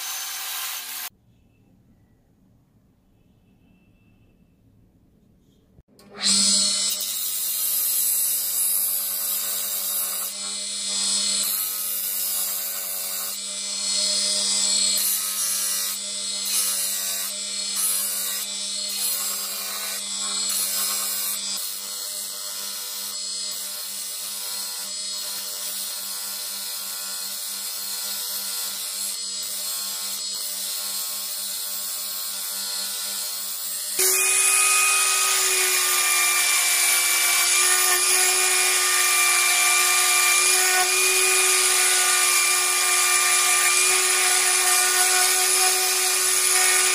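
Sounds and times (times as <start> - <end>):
bench grinder humming: 0.0 - 1.1, 6.0 - 46.9.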